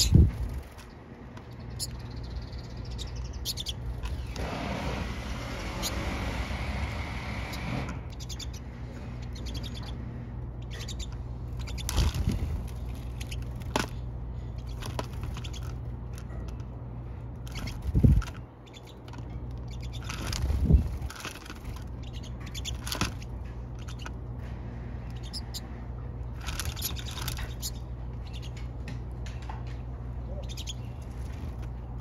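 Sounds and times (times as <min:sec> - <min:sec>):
birds twittering: 0:00.0 - 0:32.0
steady low rumble: 0:00.0 - 0:32.0.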